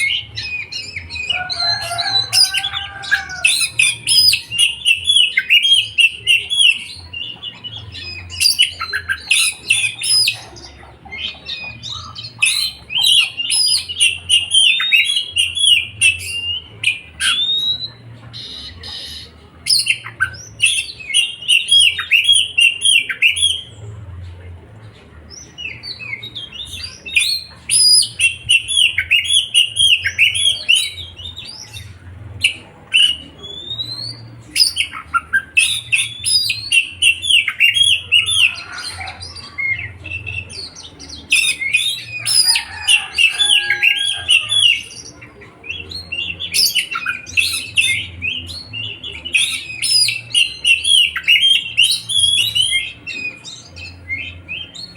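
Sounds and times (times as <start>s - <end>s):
songbird chirping and trilling: 0.0s - 54.9s.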